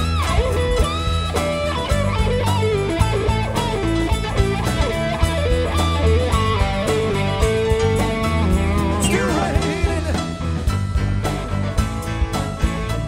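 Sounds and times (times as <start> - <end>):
bass guitar: 0.0 - 13.0
drums: 0.0 - 13.0
electric guitars: 0.0 - 13.0.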